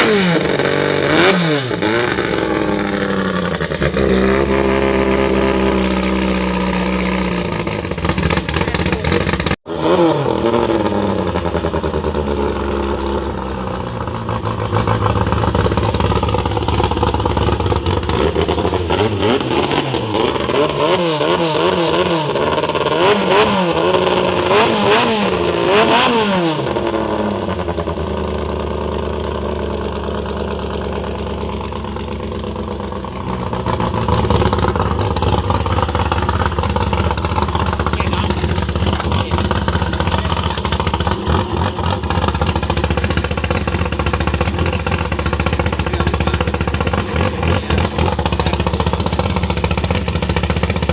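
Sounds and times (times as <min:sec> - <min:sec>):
boat engine revving: 0:00.0 - 0:29.2, 0:29.8 - 0:50.9.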